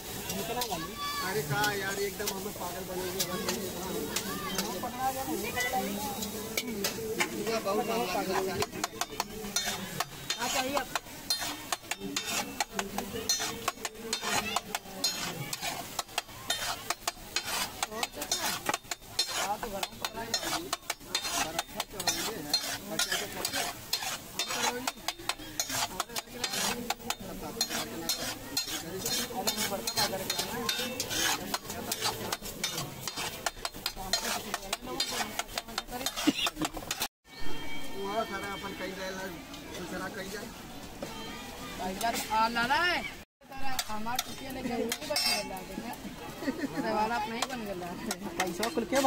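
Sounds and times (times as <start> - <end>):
gravy sizzling: 0.0 - 37.1, 38.2 - 49.0
metal spatula scraping on griddle: 0.0 - 38.7, 43.6 - 49.0.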